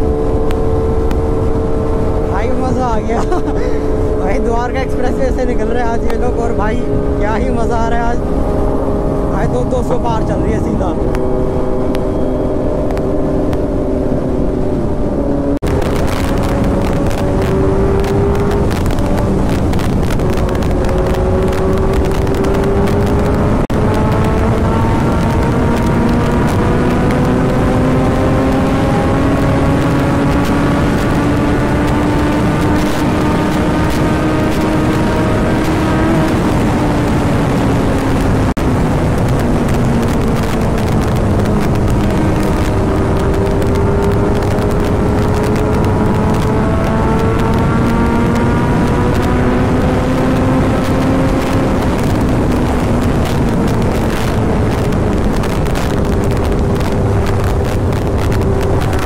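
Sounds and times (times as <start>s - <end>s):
motorcycle engine at high speed: 0.0s - 59.0s
wind rush on microphone: 0.0s - 59.0s.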